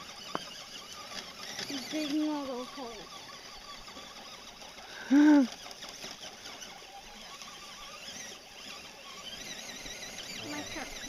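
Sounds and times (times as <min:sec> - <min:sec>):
toy truck electric motor whine: 0:00.0 - 0:11.0
tyres digging into dirt: 0:00.0 - 0:11.0.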